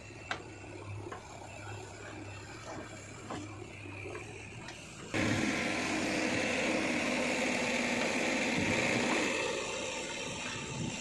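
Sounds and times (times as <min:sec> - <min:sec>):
diesel engine under load: 0:00.0 - 0:11.0.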